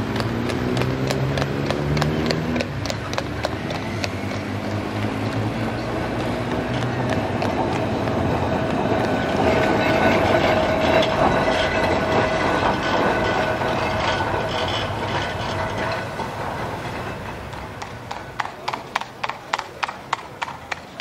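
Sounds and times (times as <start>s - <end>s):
tram wheels rumbling on track: 0.0s - 21.0s
tram whine: 0.0s - 21.0s.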